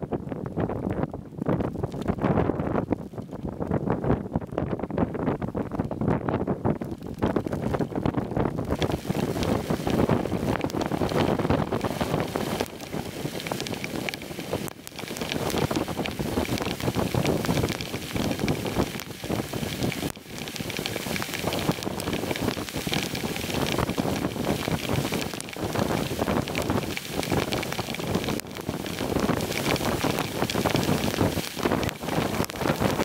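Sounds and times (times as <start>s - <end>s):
wind buffeting microphone: 0.0s - 33.0s
heavy rain on water and boat: 0.5s - 33.0s
raindrops striking camera: 1.5s - 3.8s, 6.6s - 33.0s.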